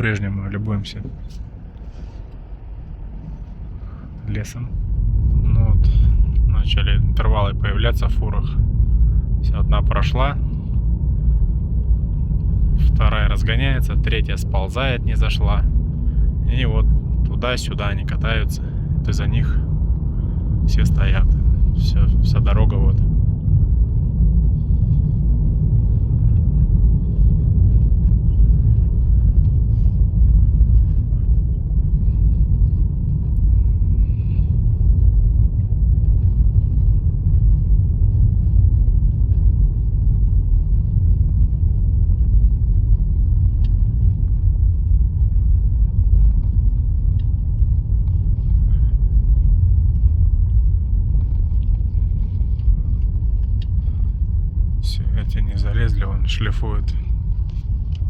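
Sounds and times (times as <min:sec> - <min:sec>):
low vehicle rumble: 0:00.0 - 0:58.0.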